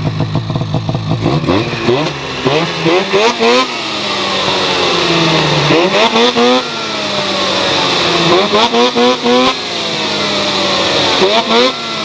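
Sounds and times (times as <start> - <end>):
snowmobile engines revving: 0.1 - 12.0.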